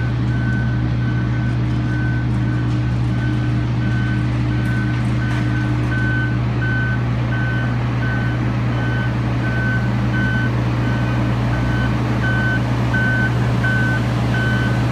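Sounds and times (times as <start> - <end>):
heavy diesel machinery drone: 0.0 - 14.9
backup alarm beeping: 0.3 - 14.8.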